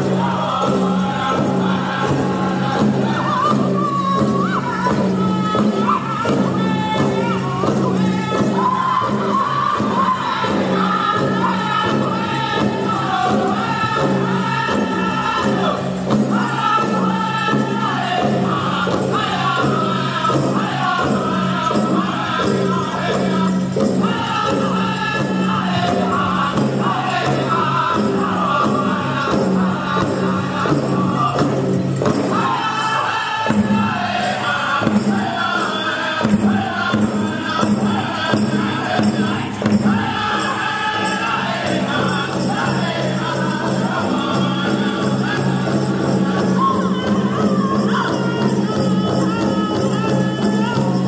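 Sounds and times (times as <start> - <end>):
bells jingling: 0.0 - 51.0
big drum beat: 0.0 - 51.0
group singing in unison: 0.0 - 51.0.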